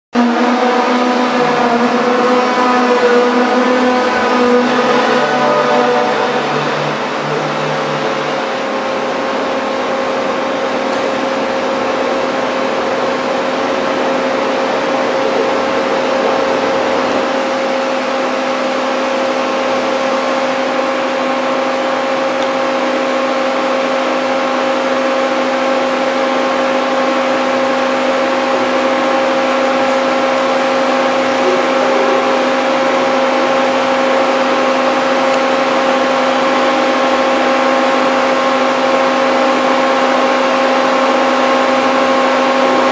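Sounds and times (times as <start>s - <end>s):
drilling machine humming: 0.2s - 42.9s.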